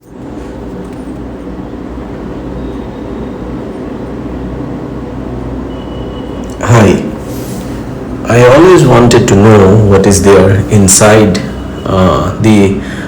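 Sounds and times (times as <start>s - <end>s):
steady low machine hum: 0.0s - 13.0s.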